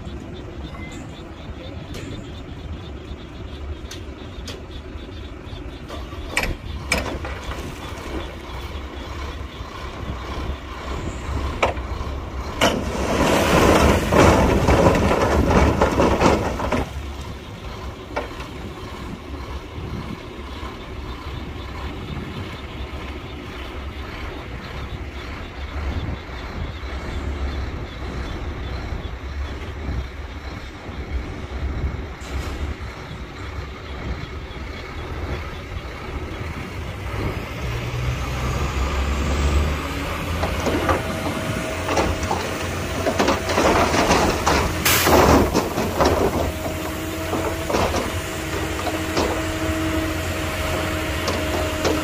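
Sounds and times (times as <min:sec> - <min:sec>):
diesel machinery rumbling: 0:00.0 - 0:52.0.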